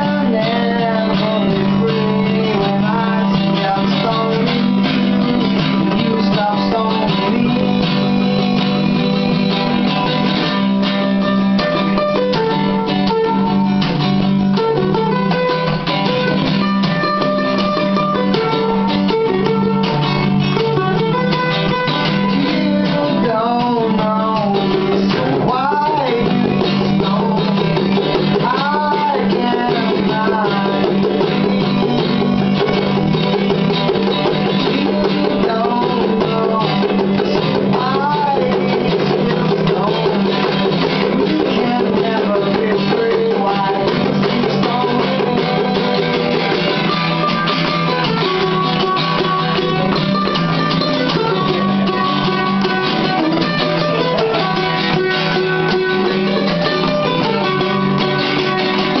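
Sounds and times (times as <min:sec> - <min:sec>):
acoustic guitar: 0:00.0 - 0:59.0
mandolin: 0:00.0 - 0:59.0
person singing: 0:00.0 - 0:59.0.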